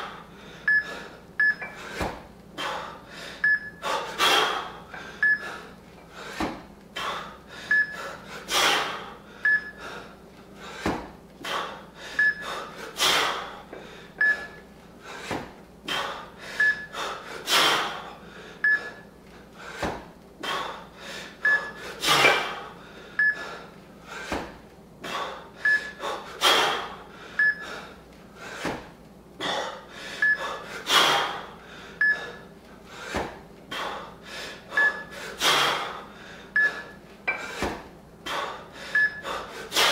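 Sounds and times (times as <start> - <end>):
heavy rhythmic breathing: 0.0 - 39.9.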